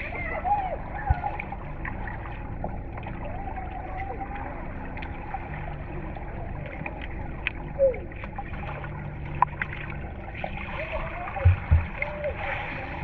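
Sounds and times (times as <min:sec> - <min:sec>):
muffled underwater rumble: 0:00.0 - 0:13.0
underwater clicks and bubbling: 0:00.0 - 0:13.0.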